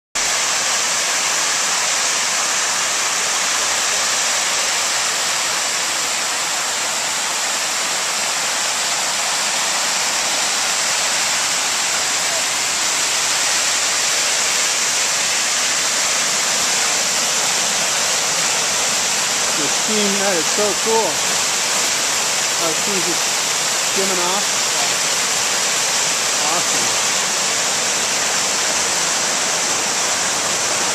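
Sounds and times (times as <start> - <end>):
water spilling over pool edge: 0.2 - 30.9.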